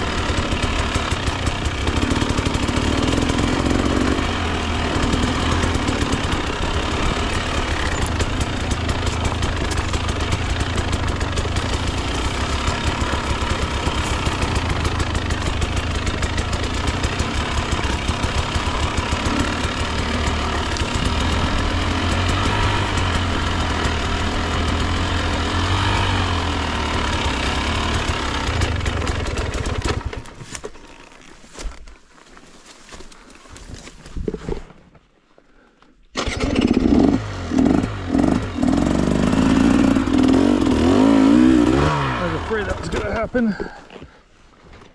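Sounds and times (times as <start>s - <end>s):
two-stroke dirt bike engine: 0.0s - 32.0s, 36.1s - 44.2s.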